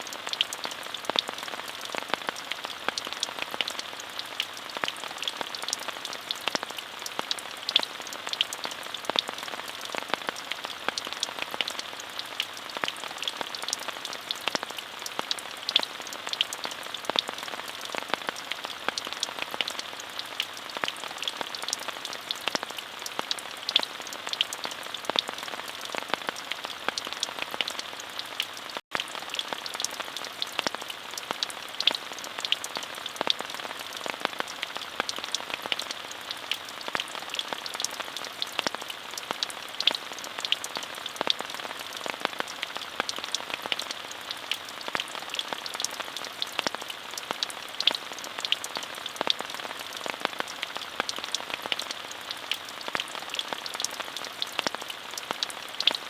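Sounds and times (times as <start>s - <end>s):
raindrops ticking: 0.0s - 56.0s.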